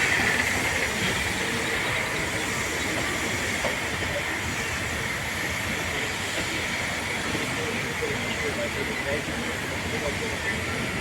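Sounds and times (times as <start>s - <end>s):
high steam hiss: 0.0s - 11.0s
steam train rumbling: 0.0s - 11.0s.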